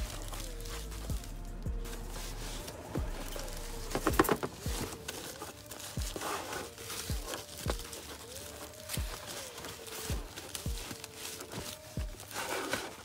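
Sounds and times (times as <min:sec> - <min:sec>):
plastic bag and foam crinkling: 0:00.0 - 0:13.0
synth background music with bass: 0:00.0 - 0:13.0.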